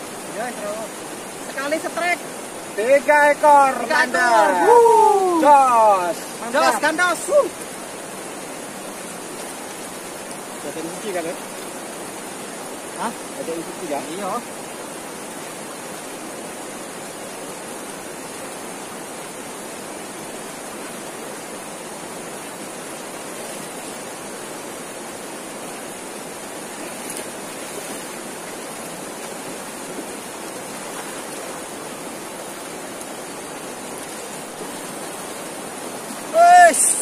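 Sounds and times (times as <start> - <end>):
water rushing over rocks: 0.0 - 37.0.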